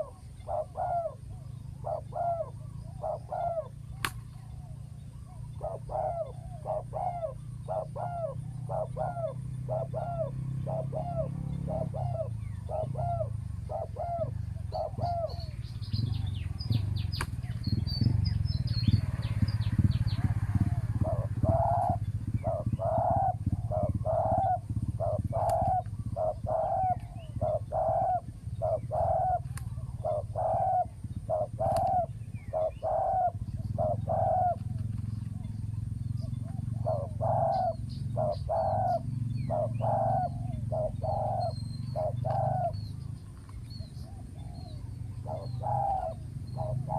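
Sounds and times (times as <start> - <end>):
doves cooing: 0.0 - 46.9
small bird chirping: 0.0 - 46.9.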